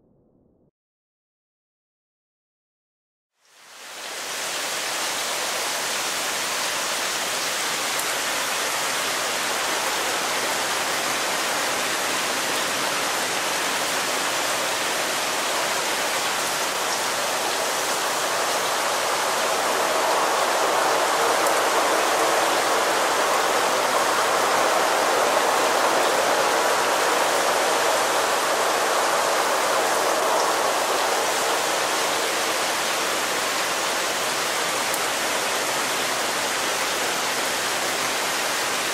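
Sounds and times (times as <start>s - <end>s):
steady hiss of rain: 3.3s - 38.9s.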